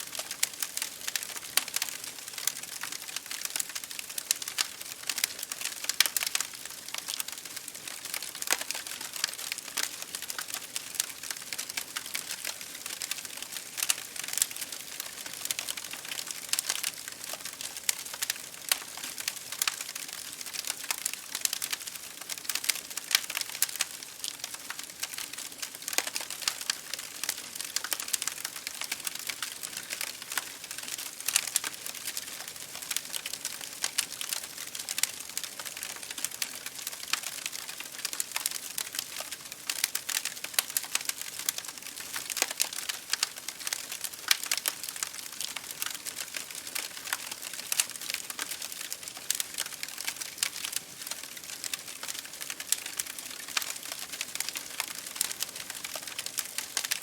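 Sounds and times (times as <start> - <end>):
rain pattering on a window: 0.0 - 57.0
wood fire crackling: 0.0 - 57.0.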